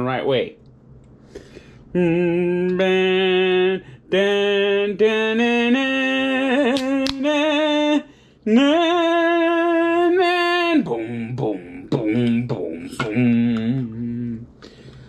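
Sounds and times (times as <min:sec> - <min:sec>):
man singing wordless tune: 0:01.9 - 0:14.6.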